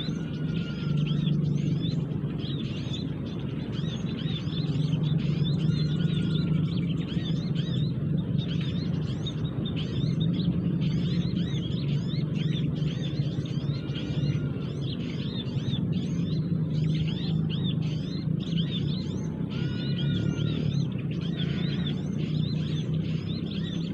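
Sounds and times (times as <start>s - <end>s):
small birds chirping: 0.0s - 23.9s
steady low rumble: 0.0s - 23.9s.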